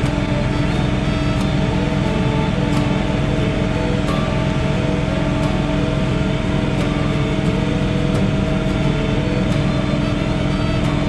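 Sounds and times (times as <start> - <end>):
tractor engine and snowblower droning: 0.0 - 11.0.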